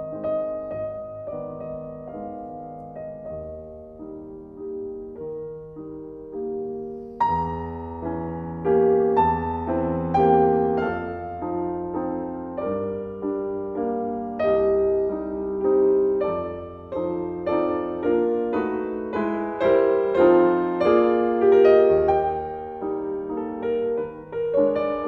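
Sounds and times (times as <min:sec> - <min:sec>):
slow piano music: 0:00.0 - 0:25.0.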